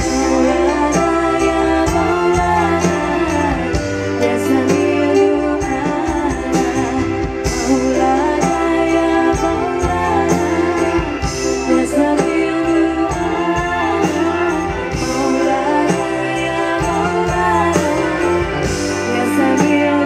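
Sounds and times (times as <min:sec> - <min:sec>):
live band music: 0:00.0 - 0:20.0
person singing: 0:00.0 - 0:20.0.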